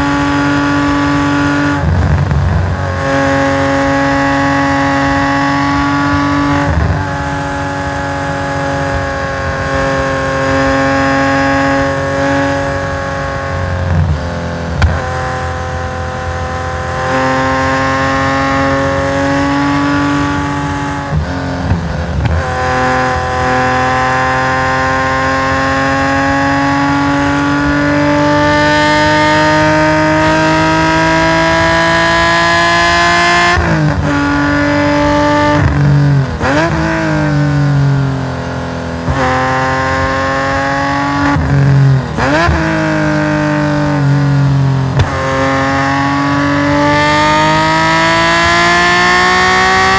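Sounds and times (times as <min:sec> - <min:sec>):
racing engine revving: 0:00.0 - 0:49.9
throttle blips on downshifts: 0:00.0 - 0:49.9.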